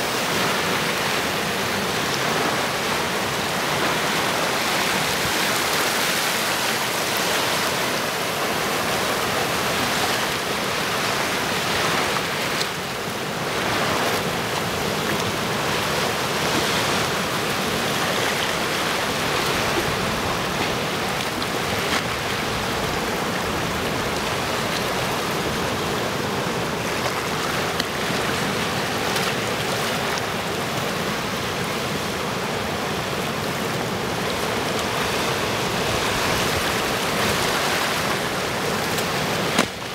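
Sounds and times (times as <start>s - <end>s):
waves washing over rocks: 0.0s - 39.9s.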